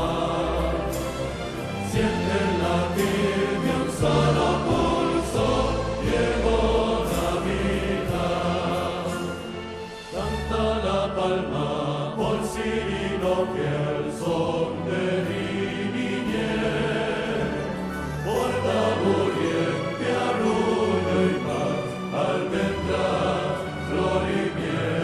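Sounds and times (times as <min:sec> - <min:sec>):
male choir singing a carol: 0:00.0 - 0:25.0
symphony orchestra: 0:00.0 - 0:25.0.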